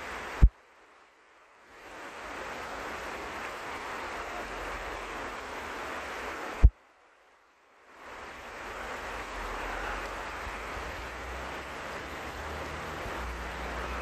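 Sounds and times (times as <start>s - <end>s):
stream flowing over riffles: 0.0s - 14.0s.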